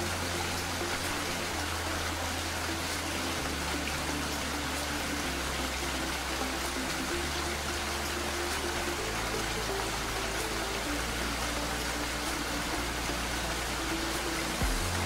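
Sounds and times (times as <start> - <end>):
quiet low background music: 0.0 - 15.0
steady rain: 0.0 - 15.0.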